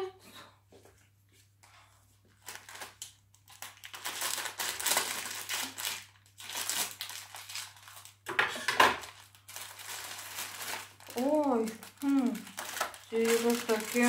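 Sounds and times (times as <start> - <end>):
plastic wrapping crinkling: 2.3 - 14.0.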